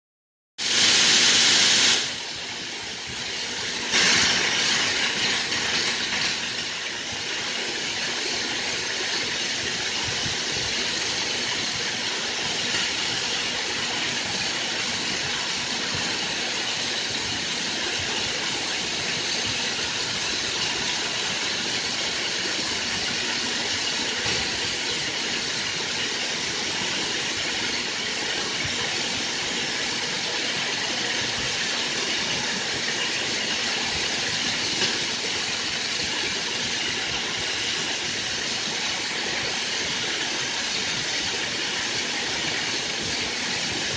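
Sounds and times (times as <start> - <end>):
filament extrusion machinery hiss: 0.6 - 43.9.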